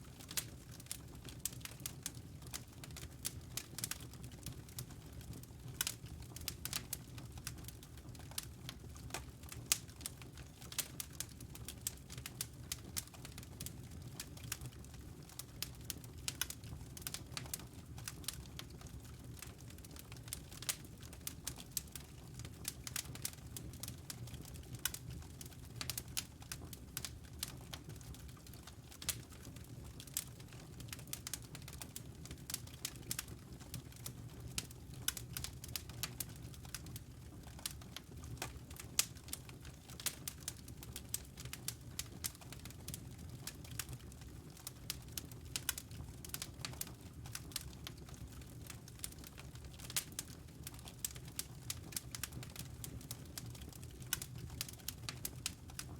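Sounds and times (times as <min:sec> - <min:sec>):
wood fire crackling and popping: 0:00.0 - 0:55.9
low fire rumble: 0:00.1 - 0:55.9.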